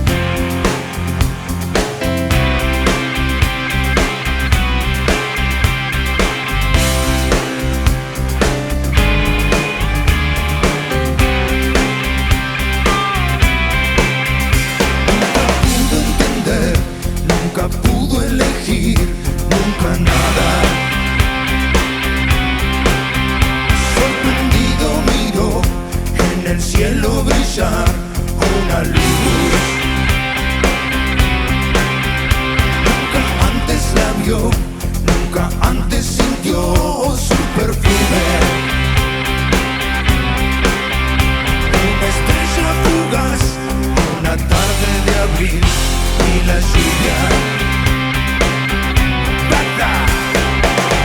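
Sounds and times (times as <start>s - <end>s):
electric guitar bending lead line: 0.0s - 35.4s, 37.6s - 51.0s
bass guitar: 0.0s - 51.0s
drums: 0.0s - 51.0s
rock band playing: 0.0s - 51.0s.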